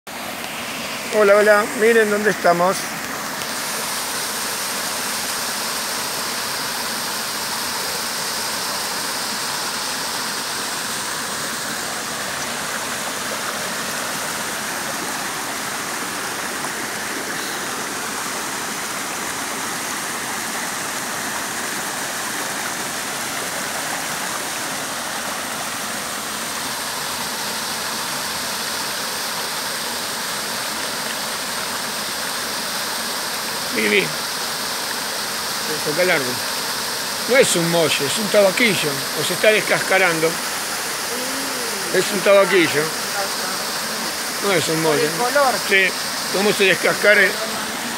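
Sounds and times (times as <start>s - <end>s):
stream rushing over boulders: 0.1s - 47.9s.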